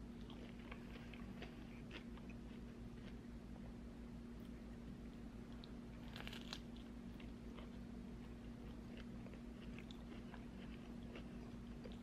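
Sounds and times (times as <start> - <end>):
soft chewing: 0.0 - 3.8, 4.4 - 12.0.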